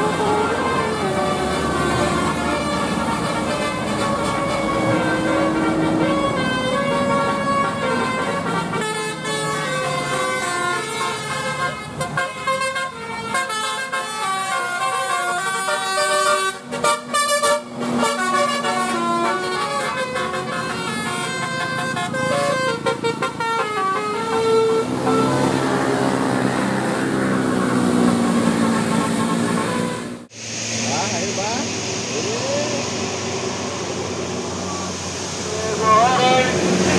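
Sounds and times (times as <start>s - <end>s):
multi-tone bus horn tune: 0.0s - 30.3s, 34.2s - 36.9s.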